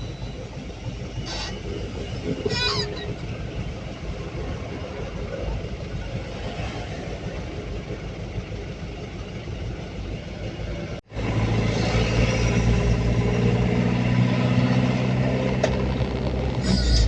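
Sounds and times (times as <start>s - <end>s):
pickup truck engine running: 0.0s - 17.0s
road and traffic noise: 0.0s - 17.0s.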